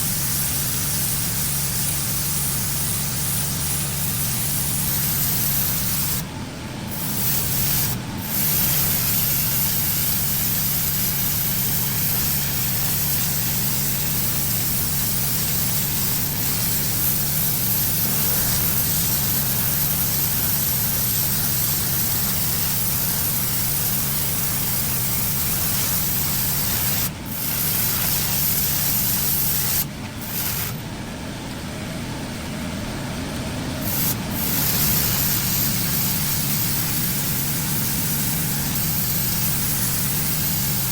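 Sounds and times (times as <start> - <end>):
pressure washer spray hissing: 0.0 - 6.2, 6.9 - 30.8, 33.8 - 40.9
engine running: 0.0 - 40.9.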